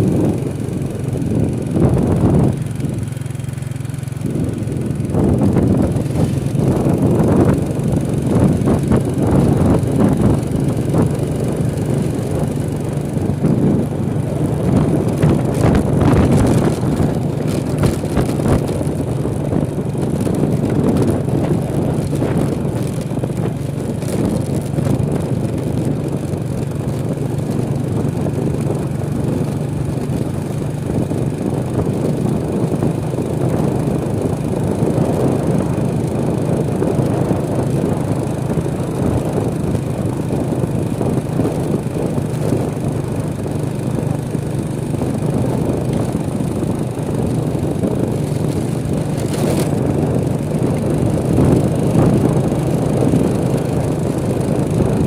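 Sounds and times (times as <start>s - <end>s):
dense rumbling noise: 0.0s - 55.0s
vehicle engine running: 0.0s - 55.0s.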